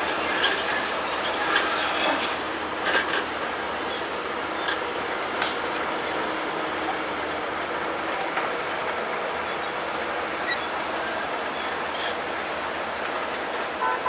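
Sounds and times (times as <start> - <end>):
diesel engine: 0.0 - 14.0
steel tracks clanking and squeaking: 0.0 - 14.0.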